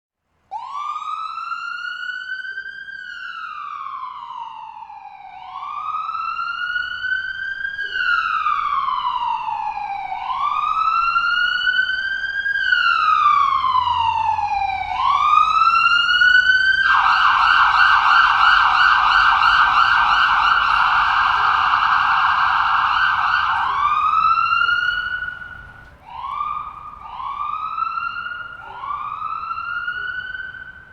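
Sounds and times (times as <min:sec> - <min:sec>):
ambulance siren wailing: 0:00.5 - 0:30.9.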